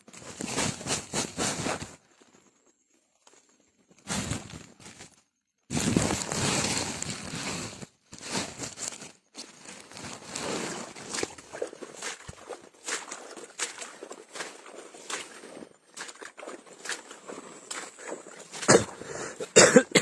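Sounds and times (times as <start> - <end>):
rustling wet vegetation: 0.0 - 20.0
footsteps through mud: 3.2 - 20.0.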